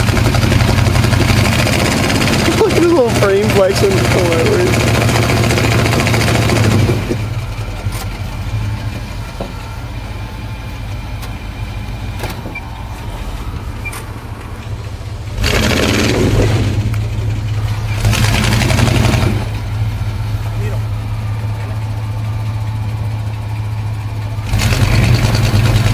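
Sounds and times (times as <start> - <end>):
truck engine running at low revs: 0.0 - 25.9.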